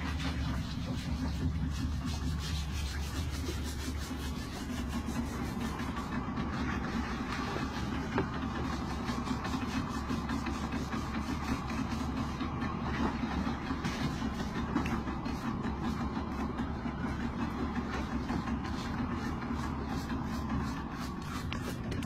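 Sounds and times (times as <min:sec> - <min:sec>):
boat engine humming: 0:00.0 - 0:22.0
rubbing scraping sound: 0:00.0 - 0:22.0.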